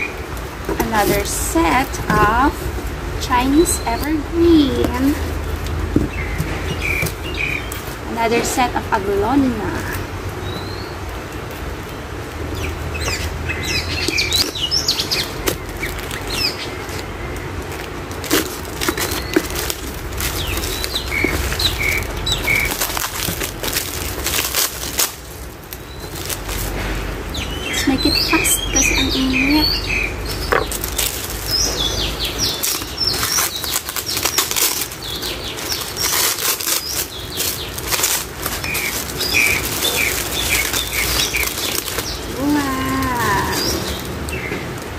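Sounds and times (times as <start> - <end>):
birds chirping: 0.0 - 44.9
paper wrapping rustling: 0.0 - 44.9.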